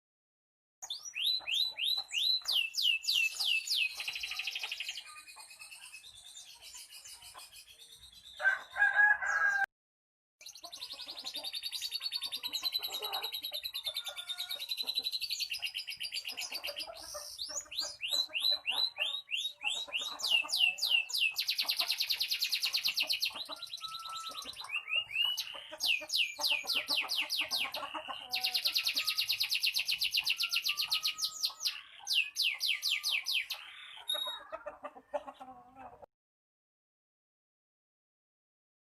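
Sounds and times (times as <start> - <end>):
canary singing: 0.8 - 9.4, 10.4 - 34.7.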